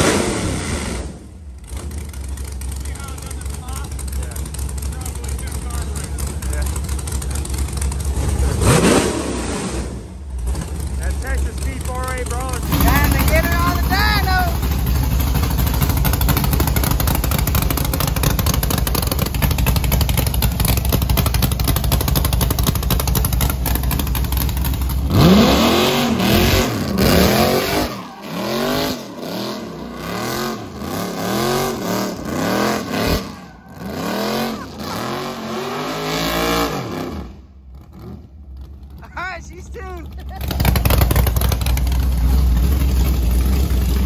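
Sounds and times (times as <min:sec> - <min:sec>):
truck engine revving: 0:00.0 - 0:44.0
tyres spinning in burnout: 0:00.0 - 0:44.0.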